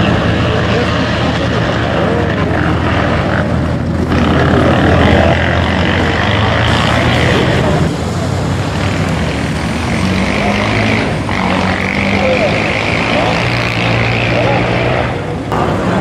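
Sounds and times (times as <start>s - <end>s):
faint voices: 0.0s - 16.0s
vehicle engines humming: 0.0s - 16.0s.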